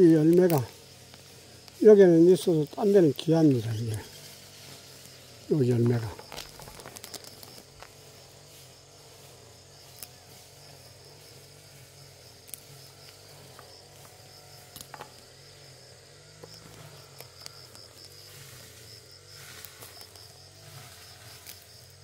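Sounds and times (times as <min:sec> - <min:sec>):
high-pitched insect chirring: 0:00.0 - 0:22.0.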